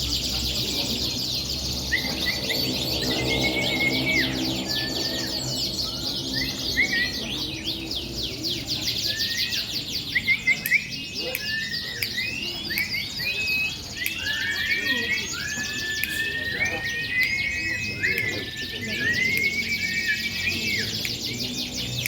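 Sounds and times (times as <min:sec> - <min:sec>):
canaries singing: 0:00.0 - 0:22.0.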